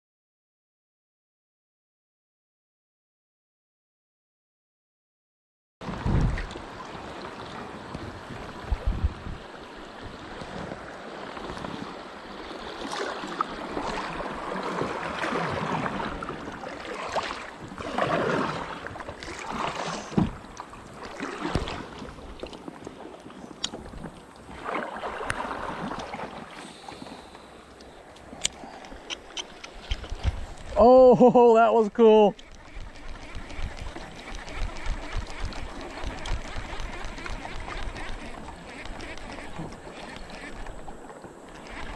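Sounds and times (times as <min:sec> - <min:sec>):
water rushing and splashing: 0:05.8 - 0:41.9.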